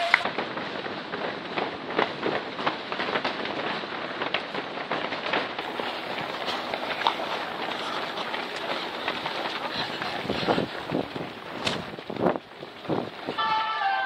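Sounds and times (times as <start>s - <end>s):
runners' shoes slapping: 0.0s - 13.4s
steady rustling hiss: 0.0s - 13.7s.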